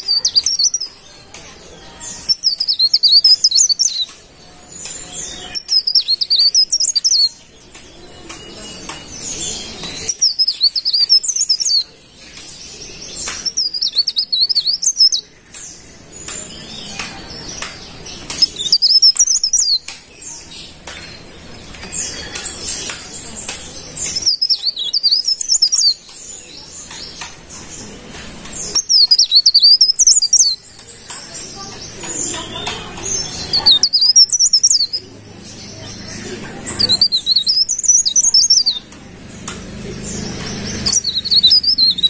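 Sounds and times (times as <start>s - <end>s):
leaf warbler singing: 0.0s - 42.0s.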